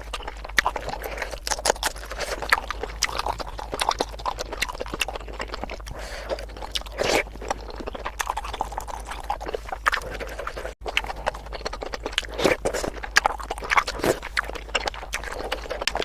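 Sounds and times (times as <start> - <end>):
close-miked wet chewing: 0.0 - 16.0.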